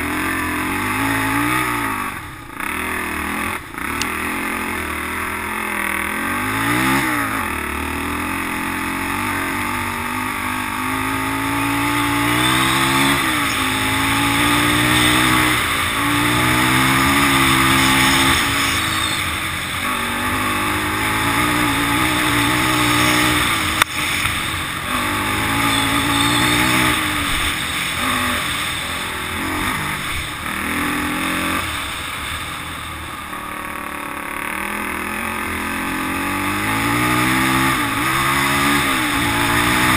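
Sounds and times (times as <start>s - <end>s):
atv engine revving: 0.0s - 39.9s
wind and tyre noise: 0.0s - 39.9s.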